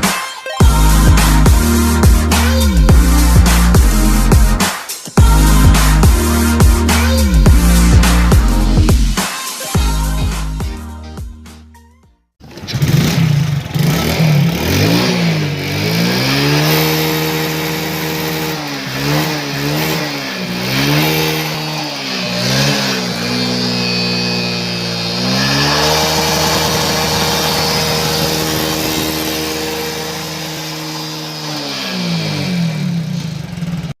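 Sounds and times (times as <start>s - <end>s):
motorcycle engine revving: 0.0s - 9.2s, 12.4s - 34.0s.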